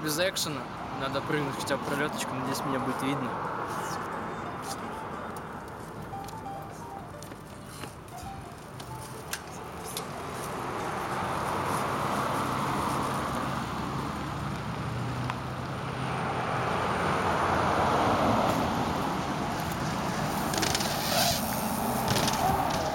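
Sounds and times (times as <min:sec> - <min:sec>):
rushing road traffic: 0:00.0 - 0:22.9.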